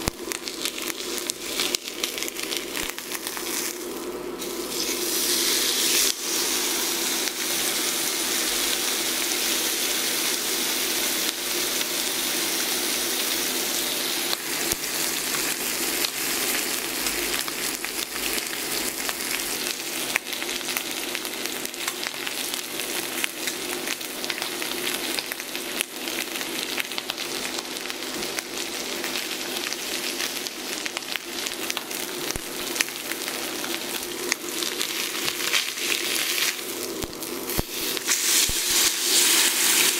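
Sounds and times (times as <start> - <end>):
steak searing in hot fat: 0.0 - 39.9.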